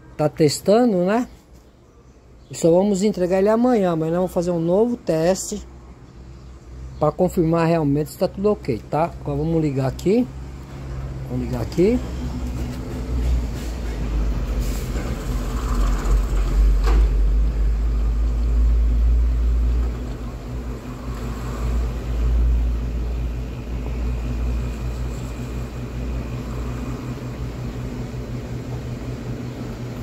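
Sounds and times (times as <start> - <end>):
compressor humming: 0.0 - 30.0.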